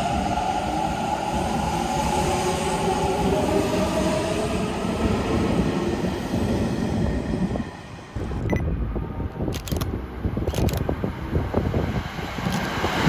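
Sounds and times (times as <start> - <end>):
electric train rumble with whine: 0.0 - 13.0.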